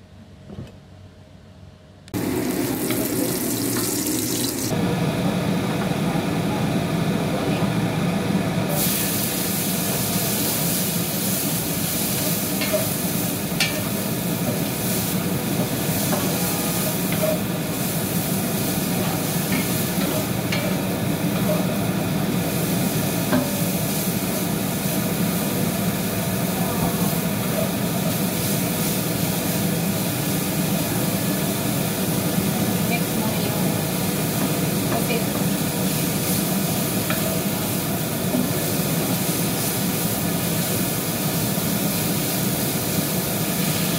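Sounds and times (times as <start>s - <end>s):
broccoli sizzling in a pan: 2.2s - 4.7s, 8.8s - 43.9s.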